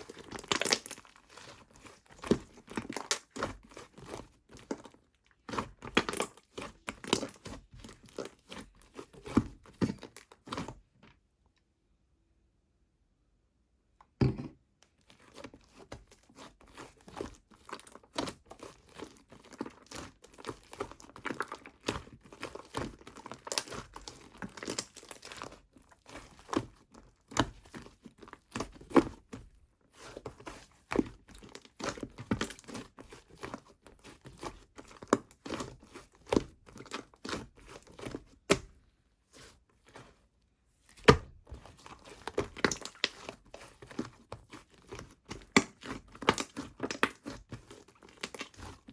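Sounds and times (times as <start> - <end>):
slime crackling and tearing: 0.0 - 10.7, 15.2 - 38.6, 40.9 - 48.9.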